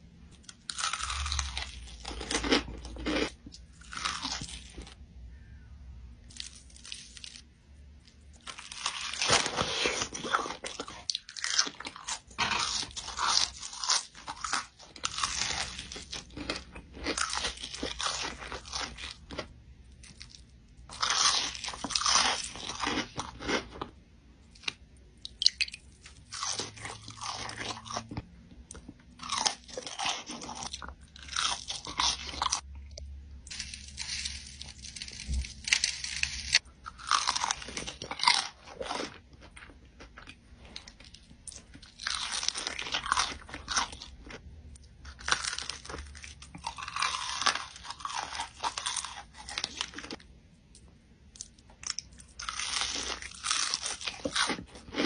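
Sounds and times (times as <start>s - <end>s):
crunching fried food: 0.3s - 5.6s, 6.2s - 55.0s.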